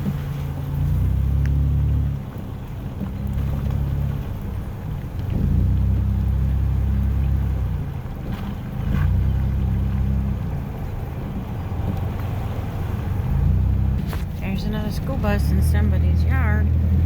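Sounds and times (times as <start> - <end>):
truck engine rumble from cab: 0.0 - 17.0.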